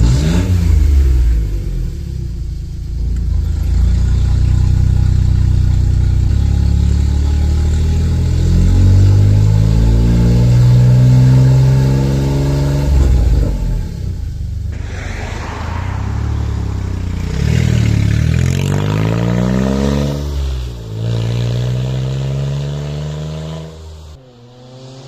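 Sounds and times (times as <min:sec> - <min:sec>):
loud car engine revving: 0:00.0 - 0:01.9, 0:03.4 - 0:14.0, 0:14.7 - 0:25.0.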